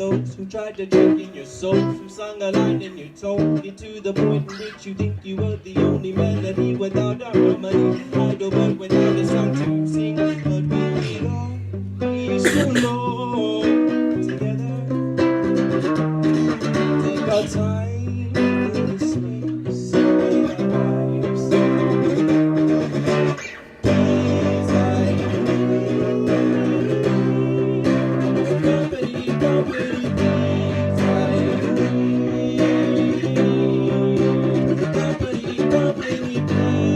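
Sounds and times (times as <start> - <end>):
acoustic guitar strumming: 0.0 - 36.9.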